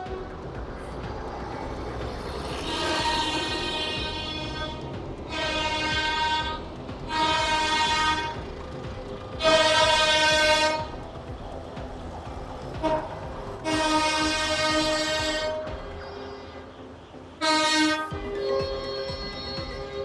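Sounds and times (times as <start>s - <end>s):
low rumble of engines: 0.0s - 20.0s
air horn blasts: 2.4s - 11.2s, 12.8s - 20.0s.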